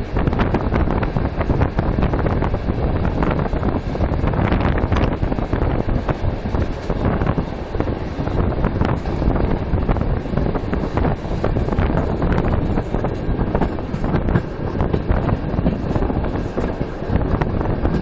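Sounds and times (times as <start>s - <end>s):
train carriage rumbling on rails: 0.0s - 18.0s
wheels clicking over rail joints: 0.0s - 18.0s
wind buffeting microphone: 0.0s - 18.0s.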